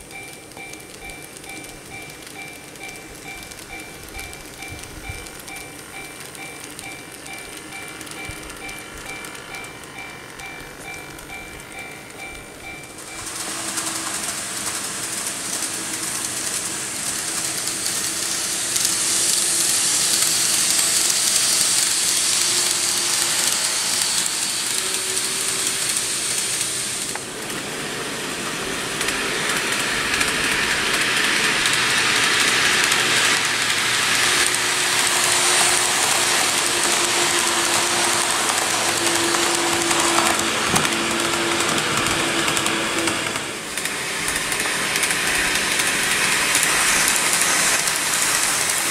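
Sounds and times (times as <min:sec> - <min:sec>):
model train wheels rolling on rail: 0:00.0 - 0:48.9.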